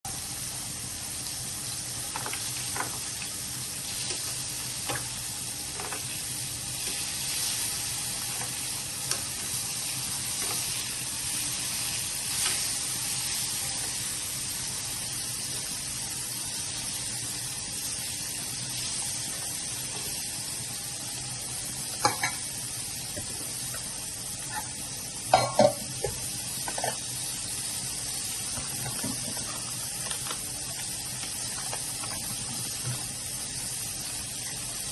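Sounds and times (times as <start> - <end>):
chicken skin sizzling in oil: 0.1 - 34.9.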